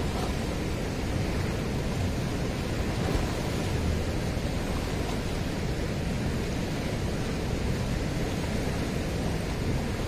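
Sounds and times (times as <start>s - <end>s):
fast-flowing river rushing: 0.0s - 10.0s
wind buffeting microphone: 0.0s - 10.0s.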